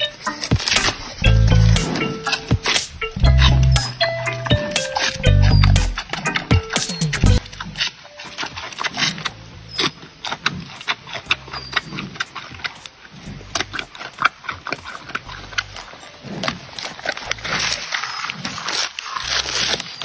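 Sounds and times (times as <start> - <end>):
panda chewing bamboo: 0.0 - 20.0.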